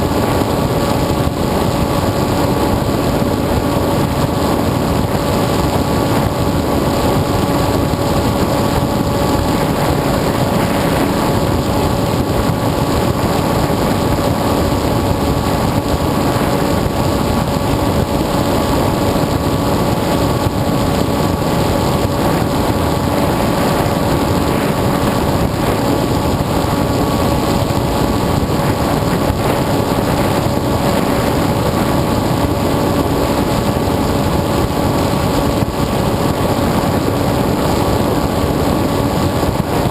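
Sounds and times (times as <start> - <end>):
electric motor and propeller whine: 0.0 - 39.9
steady rushing noise: 0.0 - 39.9.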